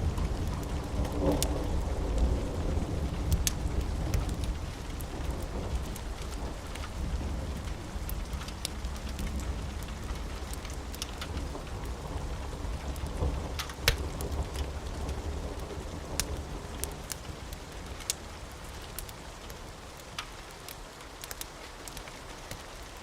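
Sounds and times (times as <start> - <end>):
low rumble of thunder: 0.0 - 19.3
steady rain: 0.0 - 23.0.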